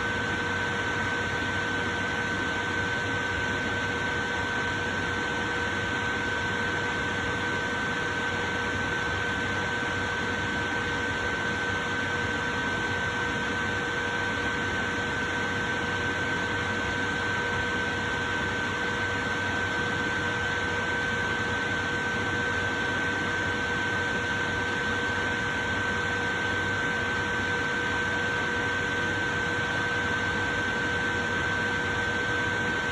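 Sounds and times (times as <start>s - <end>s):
electric fan running: 0.0s - 32.9s.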